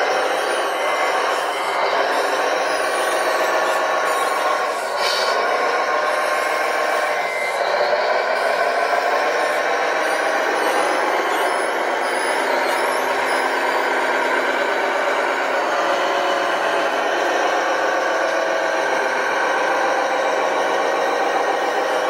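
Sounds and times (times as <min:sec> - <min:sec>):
toy truck motor running: 0:00.0 - 0:22.0.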